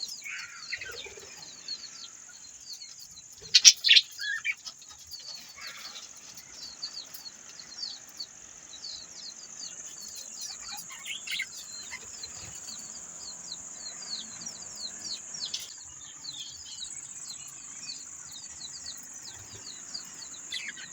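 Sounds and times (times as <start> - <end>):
budgerigars chirping: 0.0 - 20.9.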